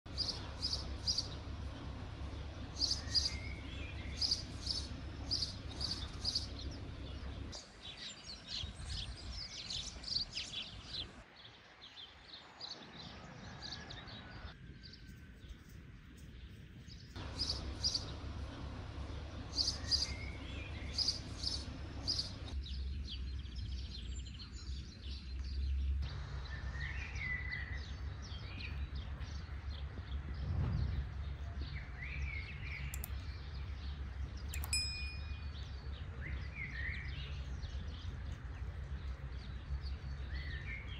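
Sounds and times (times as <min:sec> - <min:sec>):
low steady rumble: 0:00.1 - 0:11.2, 0:15.2 - 0:40.9
small birds chirping: 0:00.1 - 0:40.9.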